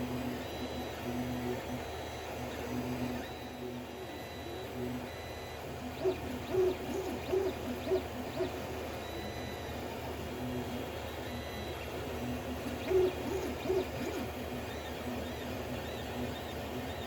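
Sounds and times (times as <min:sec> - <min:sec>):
fan hum: 0:00.0 - 0:17.0
stepper motors whining: 0:00.0 - 0:17.0.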